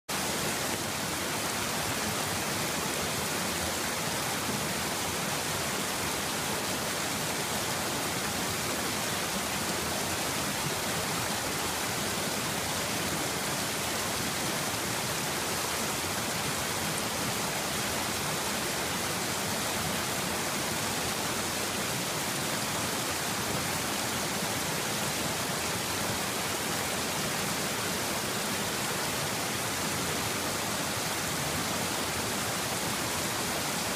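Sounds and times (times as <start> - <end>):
stream water flowing: 0.1 - 33.9.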